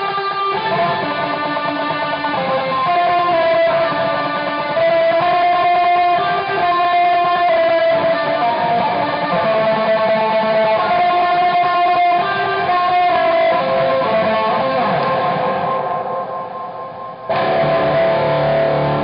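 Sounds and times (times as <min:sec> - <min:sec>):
electric guitar sustained notes: 0:00.0 - 0:19.0.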